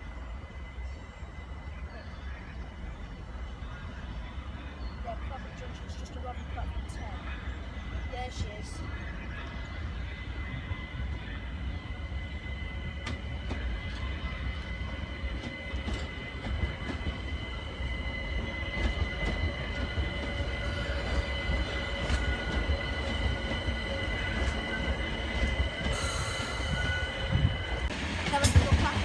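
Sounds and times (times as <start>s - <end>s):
train low rolling rumble: 0.0s - 29.0s.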